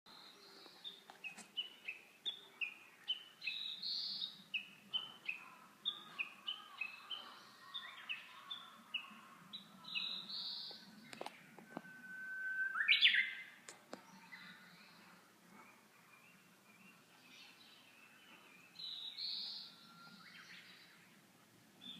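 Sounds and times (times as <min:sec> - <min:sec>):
bird singing: 0:00.1 - 0:21.9.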